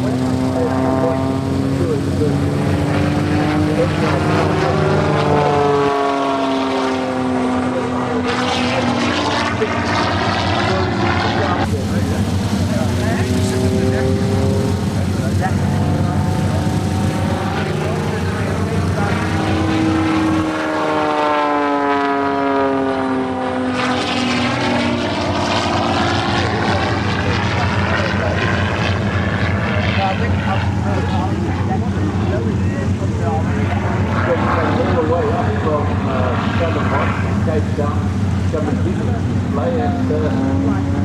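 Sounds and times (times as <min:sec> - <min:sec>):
propeller airplane passing by: 0:00.0 - 0:41.0.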